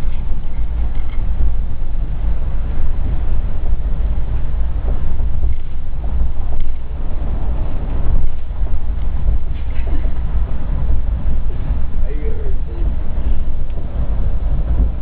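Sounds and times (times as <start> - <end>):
bus rumbling inside cabin: 0.0 - 15.0.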